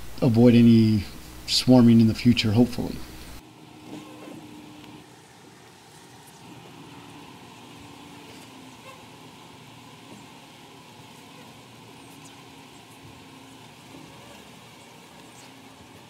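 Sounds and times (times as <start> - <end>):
steady hiss: 0.0 - 16.0
honeybees buzzing: 2.8 - 16.0.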